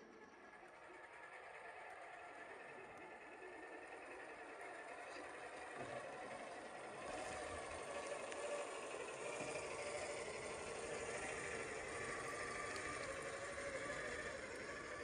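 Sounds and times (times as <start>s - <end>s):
rc crawler motors whirring: 0.0s - 15.0s.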